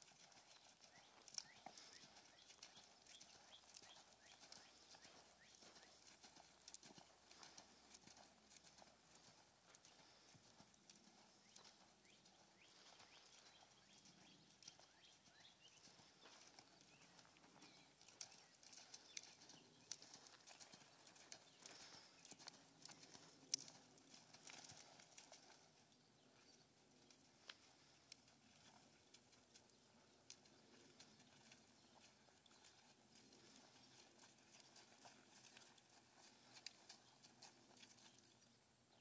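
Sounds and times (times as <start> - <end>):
horse hoofbeats on sand: 0.0 - 26.6, 27.7 - 38.4.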